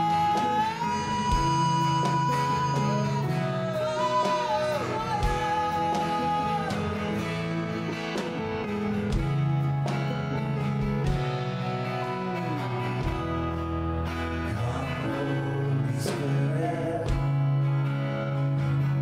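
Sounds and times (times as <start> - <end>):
gospel band music: 0.0 - 19.0
sliding guitar melody: 0.0 - 19.0.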